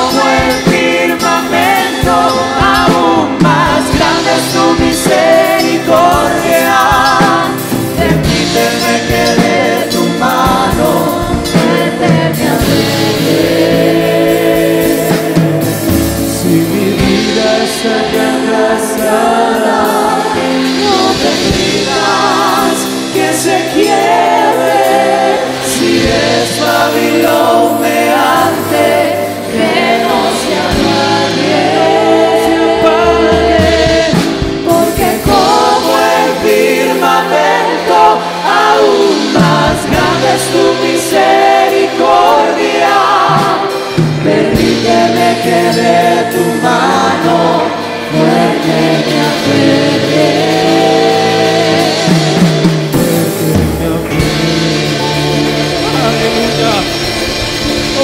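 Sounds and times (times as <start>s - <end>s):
live band playing: 0.0s - 58.0s
voices singing long notes: 0.0s - 58.0s.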